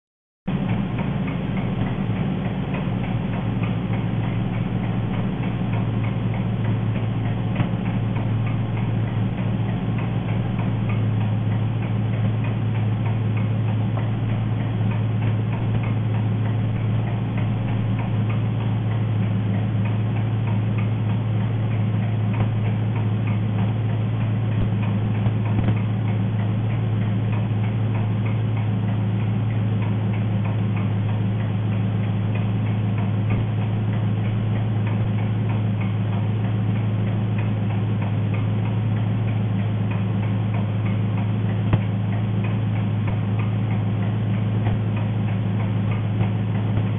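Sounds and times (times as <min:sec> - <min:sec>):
car engine humming: 0:00.5 - 0:46.9
fast ticking engine clatter: 0:00.5 - 0:46.9.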